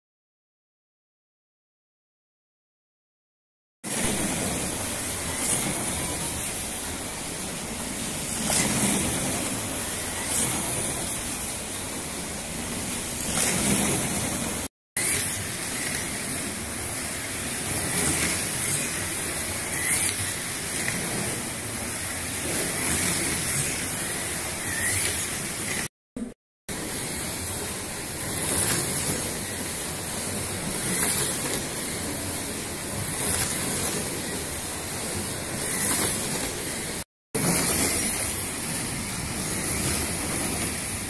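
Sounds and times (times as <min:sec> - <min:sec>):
slot cars whirring on track: 0:03.9 - 0:41.0.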